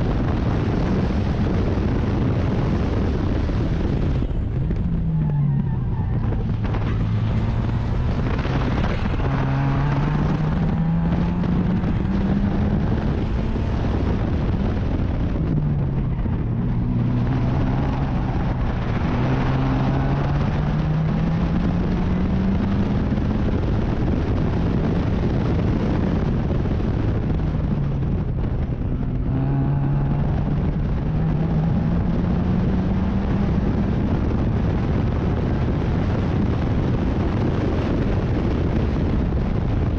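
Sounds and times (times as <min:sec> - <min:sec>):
racing car engine revving: 0:00.0 - 0:39.9
wind and road noise: 0:00.0 - 0:39.9.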